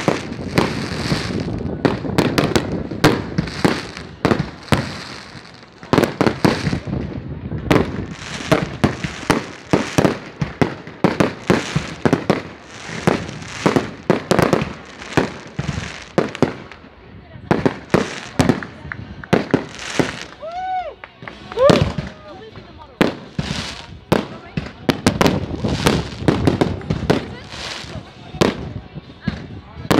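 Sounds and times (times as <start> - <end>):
fireworks bangs: 0.0 - 20.5, 21.2 - 29.9
fireworks crackling and hissing: 0.0 - 29.9.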